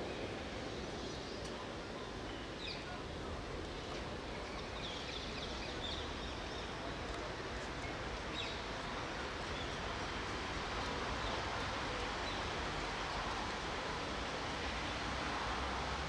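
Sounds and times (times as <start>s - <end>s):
outdoor background rush: 0.0s - 16.0s.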